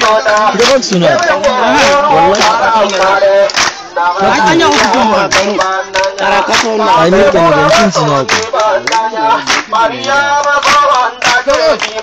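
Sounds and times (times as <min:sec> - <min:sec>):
man singing through a megaphone: 0:00.0 - 0:12.0.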